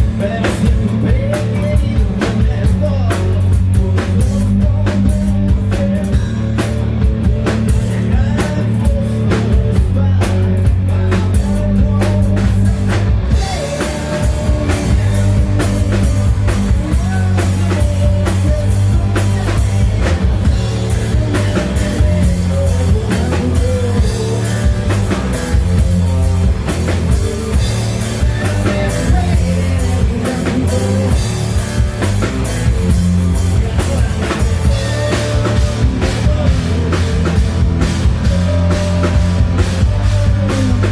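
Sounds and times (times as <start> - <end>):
person singing: 0.0 - 40.9
rock band playing live: 0.0 - 40.9.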